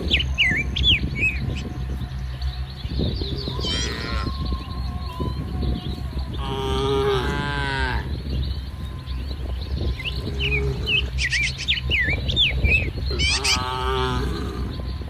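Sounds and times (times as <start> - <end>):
cows mooing: 0.0 - 15.0.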